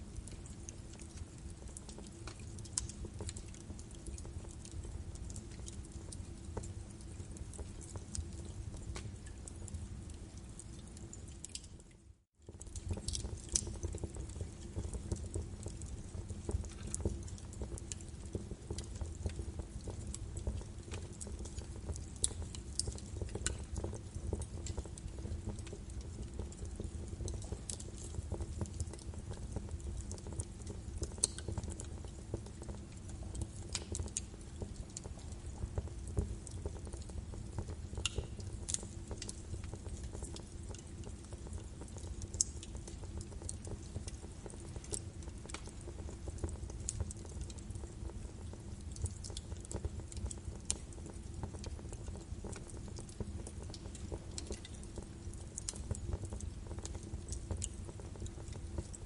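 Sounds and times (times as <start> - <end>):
fire burning in a fireplace: 0.0 - 59.0.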